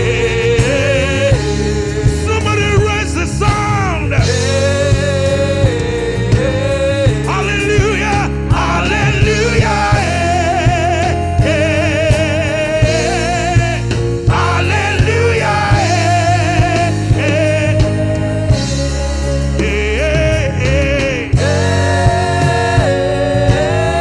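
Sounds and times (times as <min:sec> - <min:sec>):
band with bass and drums: 0:00.0 - 0:24.0
person singing with vibrato: 0:00.0 - 0:24.0.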